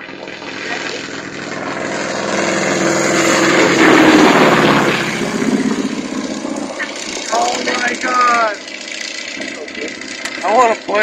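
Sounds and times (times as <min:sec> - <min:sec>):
biplane engine flyby: 0:00.0 - 0:11.0.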